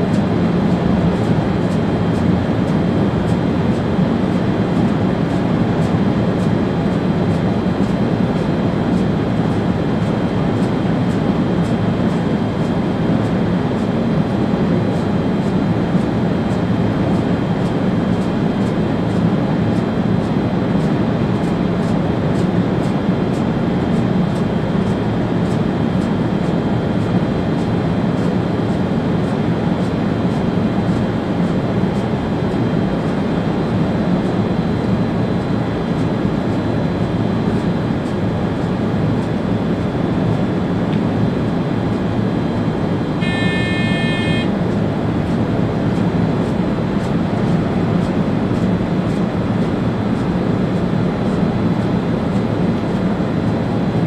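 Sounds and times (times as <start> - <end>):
train rumbling along tracks: 0.0 - 53.6.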